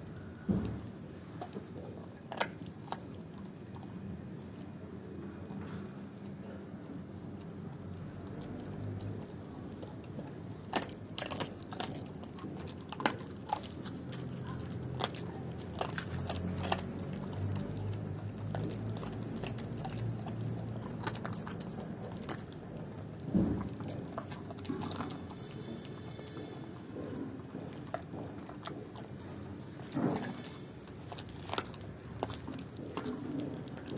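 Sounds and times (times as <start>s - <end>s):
dog crunching bones: 0.0s - 33.9s.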